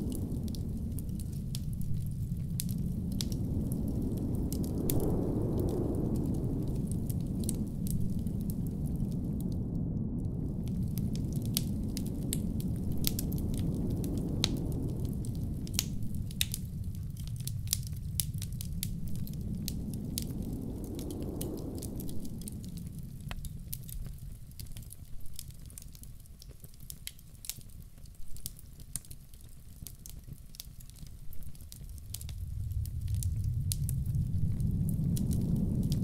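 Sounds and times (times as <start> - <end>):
low blizzard wind rumble: 0.0 - 36.0
wood fire crackling and popping: 0.0 - 36.0.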